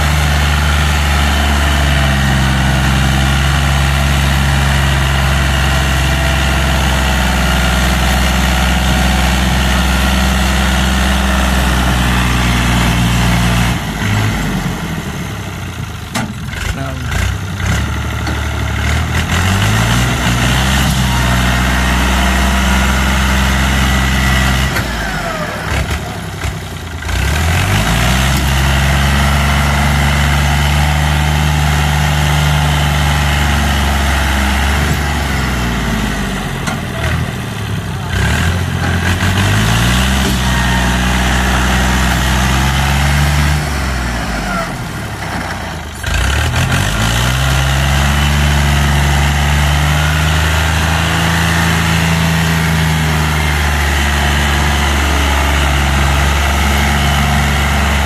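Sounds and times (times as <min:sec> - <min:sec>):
tractor diesel engine labouring: 0:00.0 - 0:58.0.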